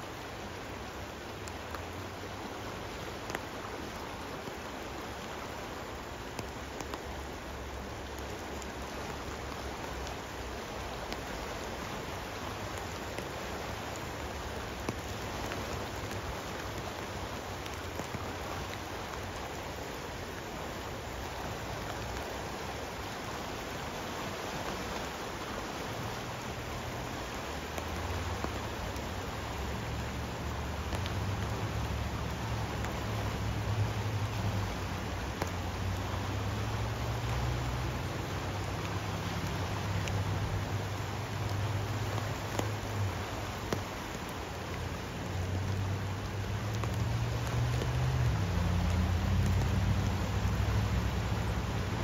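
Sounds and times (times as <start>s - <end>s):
rushing river water: 0.0s - 52.0s
steady rain falling: 0.0s - 52.0s.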